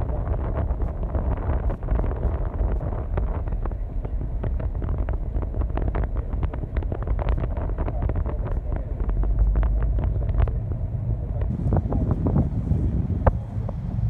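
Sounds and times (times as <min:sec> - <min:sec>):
crackles: 0:00.0 - 0:14.0
ferry engine rumble: 0:00.0 - 0:14.0
wind buffeting microphone: 0:00.0 - 0:14.0.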